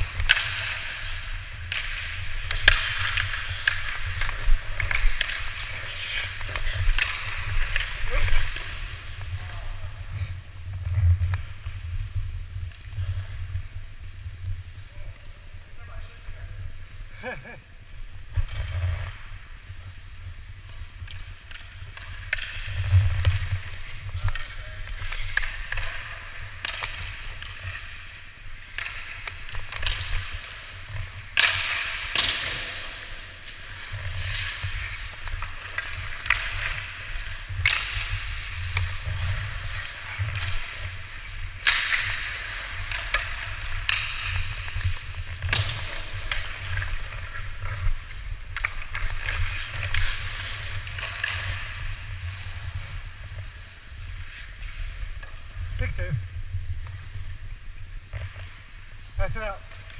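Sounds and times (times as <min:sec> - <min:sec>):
hockey sticks and puck knocking: 0:00.0 - 0:13.6, 0:18.0 - 0:59.9
skates scraping on ice: 0:00.0 - 0:59.9.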